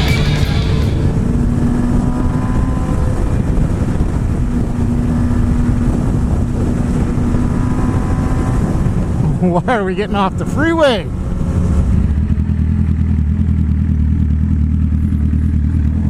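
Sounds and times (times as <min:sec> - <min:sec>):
motorcycle engine cruising: 0:00.0 - 0:09.2, 0:11.2 - 0:16.0.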